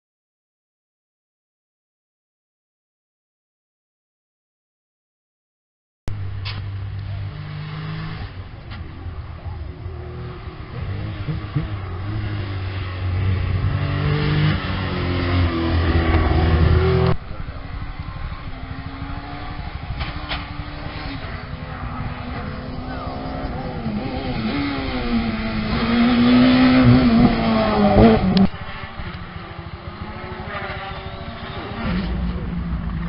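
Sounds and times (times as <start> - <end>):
distant rally car engine: 6.1 - 33.0
rally car engine driving by: 6.1 - 33.0.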